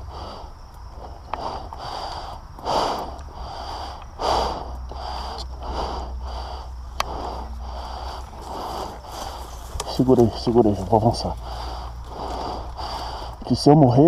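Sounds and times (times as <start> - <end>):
person breathing heavily: 0.0 - 14.0.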